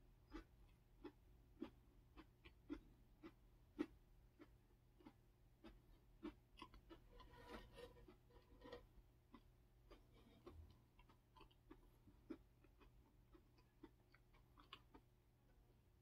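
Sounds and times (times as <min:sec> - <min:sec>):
faint chewing: 0:00.2 - 0:15.6.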